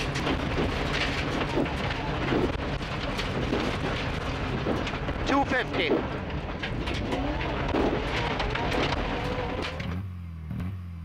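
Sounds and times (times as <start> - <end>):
stones striking car: 0.0 - 10.0
tyres on loose gravel: 0.0 - 10.0
rally car engine revving: 0.0 - 11.0.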